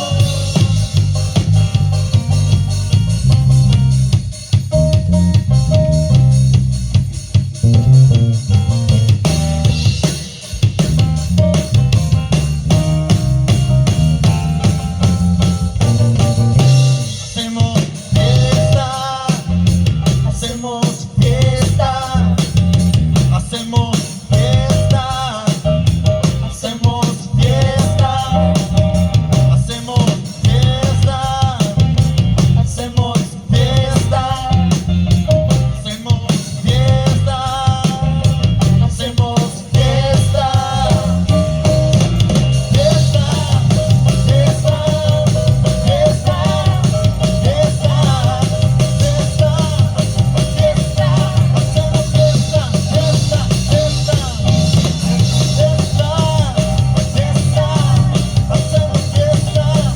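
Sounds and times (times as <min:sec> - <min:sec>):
band music with singing: 0:00.0 - 0:59.9.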